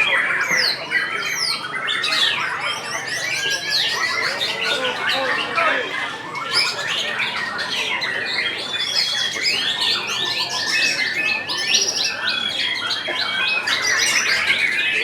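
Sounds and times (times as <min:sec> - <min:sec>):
chorus of songbirds singing: 0:00.0 - 0:15.0.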